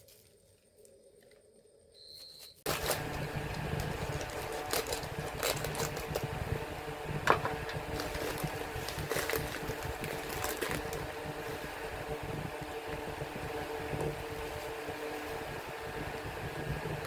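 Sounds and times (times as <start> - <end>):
small motor humming: 2.7 - 17.0.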